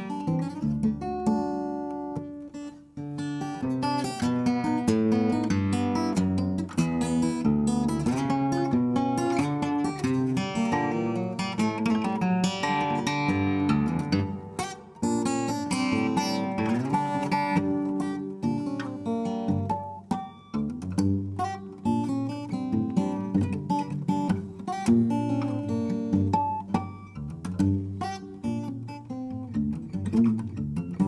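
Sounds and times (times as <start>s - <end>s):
fingerpicked acoustic guitar: 0.0s - 31.0s.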